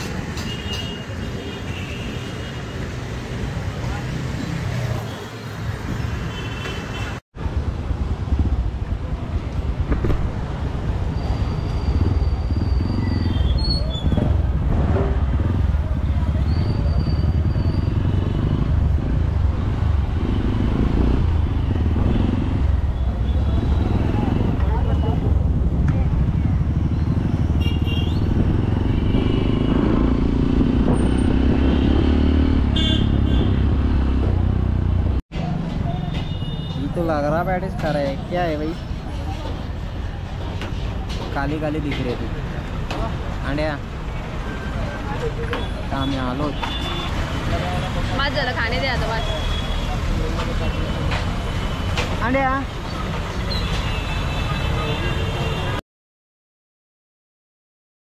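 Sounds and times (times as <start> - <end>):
traffic noise: 0.0 - 55.8.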